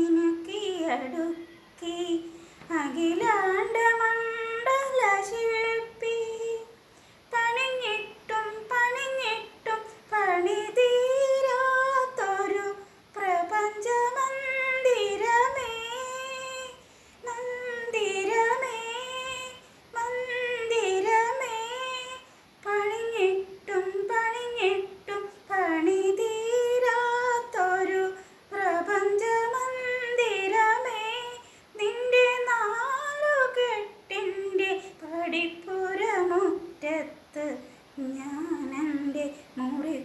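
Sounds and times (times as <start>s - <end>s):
woman singing unaccompanied: 0.0s - 40.0s.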